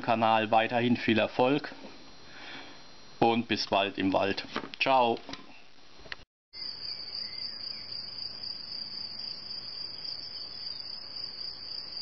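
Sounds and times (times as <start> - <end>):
crickets chirping: 0.0 - 4.4, 6.5 - 12.0.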